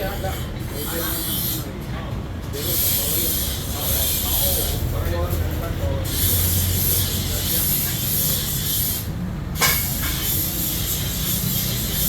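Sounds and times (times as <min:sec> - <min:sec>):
low hum of workshop machinery: 0:00.0 - 0:12.0.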